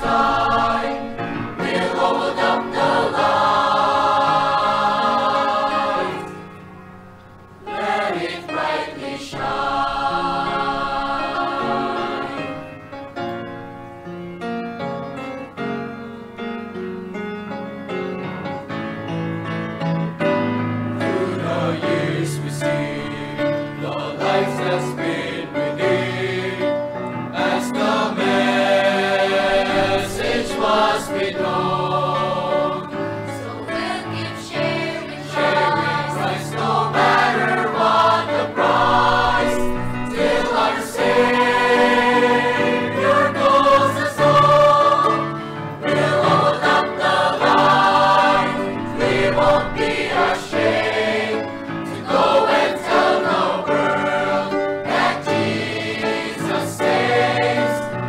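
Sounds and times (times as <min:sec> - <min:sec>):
children's choir singing gospel: 0:00.0 - 0:06.6, 0:07.5 - 0:13.4, 0:20.9 - 0:58.0.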